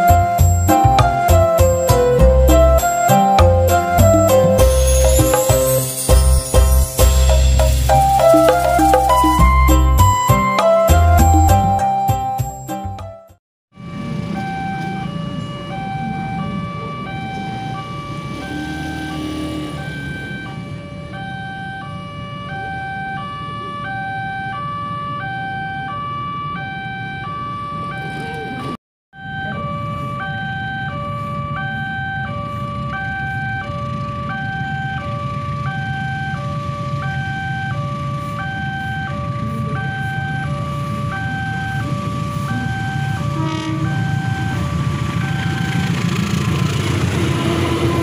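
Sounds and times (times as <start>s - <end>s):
two-tone level crossing alarm: 0.0s - 48.0s.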